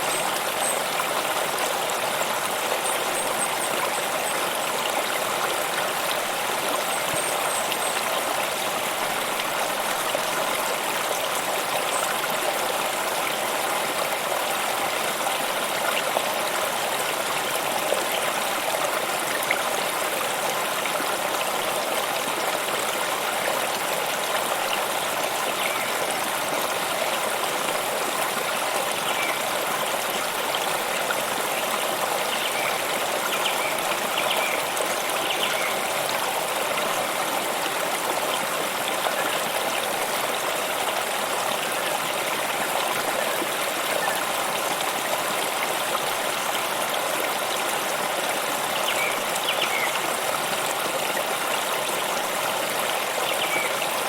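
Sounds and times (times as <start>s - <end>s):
stream of water running: 0.0s - 54.0s.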